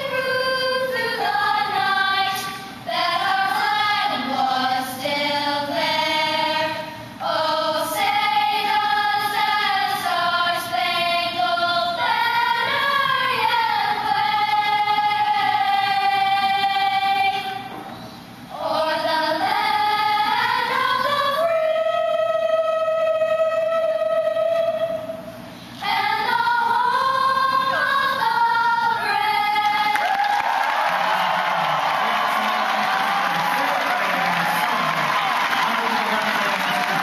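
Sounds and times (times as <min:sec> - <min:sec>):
children's choir singing: 0:00.0 - 0:17.7, 0:18.5 - 0:25.1, 0:25.8 - 0:37.0.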